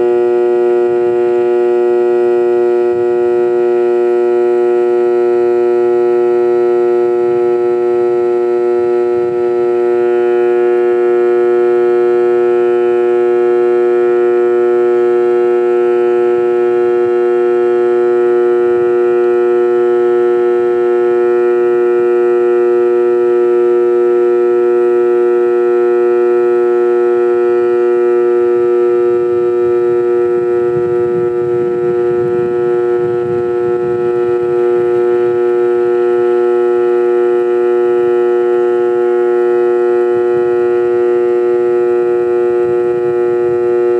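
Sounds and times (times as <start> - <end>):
vacuum cleaner motor whining: 0.0 - 43.9.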